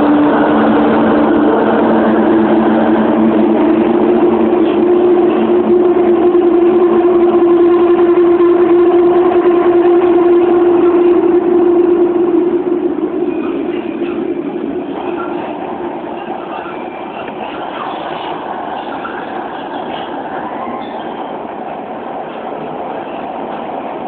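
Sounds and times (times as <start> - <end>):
train motor whine: 0.0 - 24.0
train rolling noise: 0.0 - 24.0.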